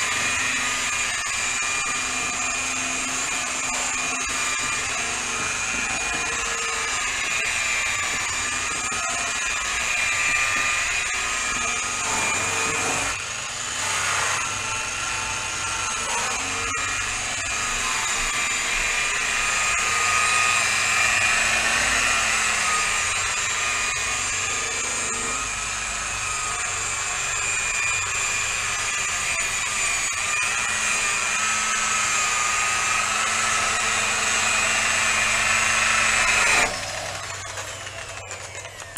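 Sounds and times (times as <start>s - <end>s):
electric polisher motor whining: 0.0s - 38.9s.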